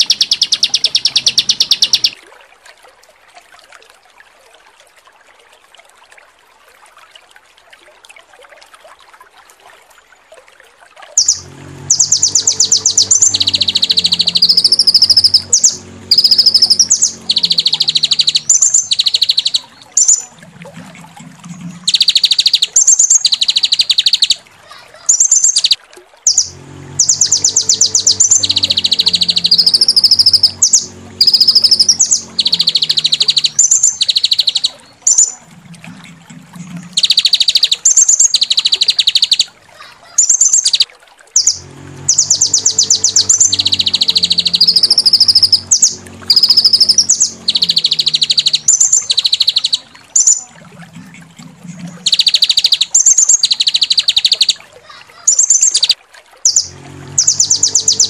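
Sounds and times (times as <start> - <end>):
songbird rattling trills: 0.0 - 2.2, 11.2 - 58.0.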